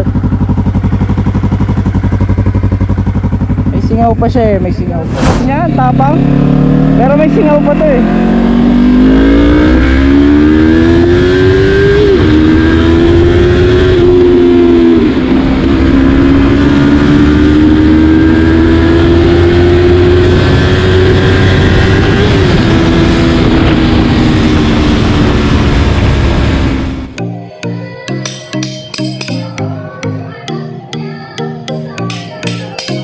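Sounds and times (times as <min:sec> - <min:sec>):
motorcycle engine revving: 0:00.0 - 0:27.2.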